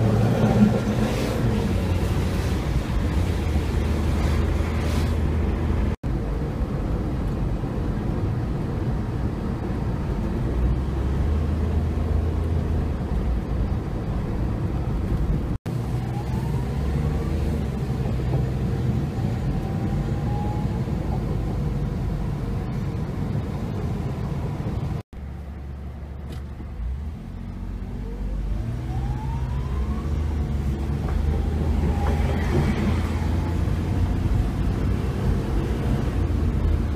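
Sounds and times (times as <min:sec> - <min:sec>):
road and traffic rumble: 0:00.0 - 0:36.9.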